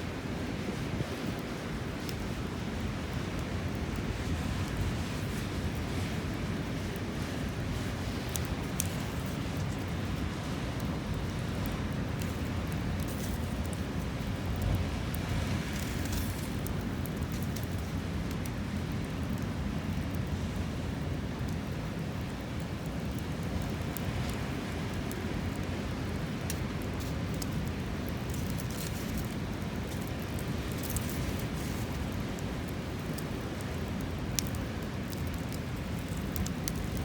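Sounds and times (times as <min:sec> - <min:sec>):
wind: 0:00.0 - 0:37.0
wood fire crackling: 0:00.0 - 0:37.0.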